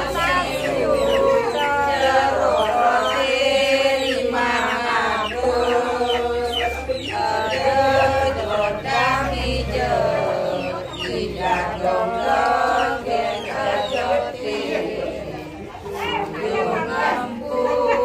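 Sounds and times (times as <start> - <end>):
chanting in long held notes: 0.0 - 18.0.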